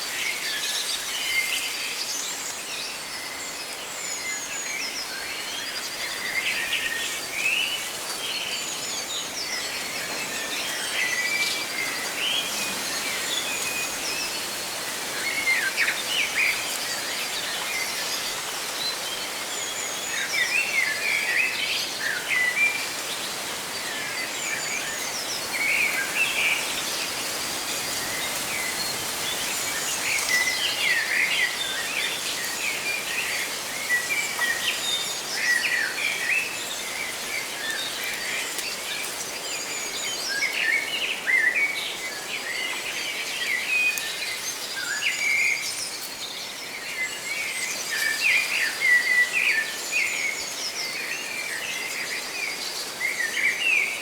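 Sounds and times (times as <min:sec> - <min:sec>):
leaves rustling: 0:05.1 - 0:54.0.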